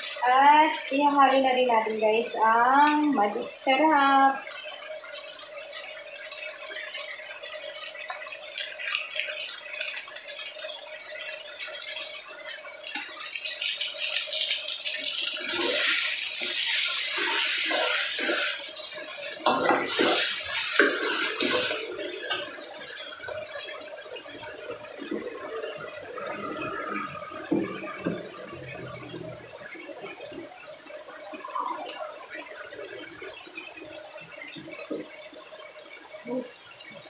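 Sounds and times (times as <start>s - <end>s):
meat sizzling in a pan: 0.0s - 37.0s.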